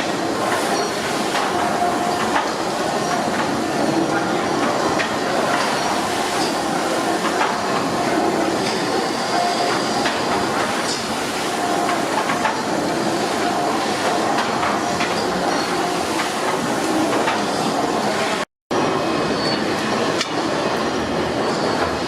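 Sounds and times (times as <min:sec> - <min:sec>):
steam engine clattering: 0:00.0 - 0:18.4.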